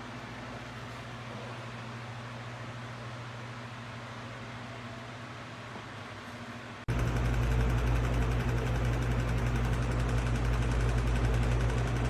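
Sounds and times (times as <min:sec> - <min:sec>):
pedestal fan running: 0:00.0 - 0:12.0.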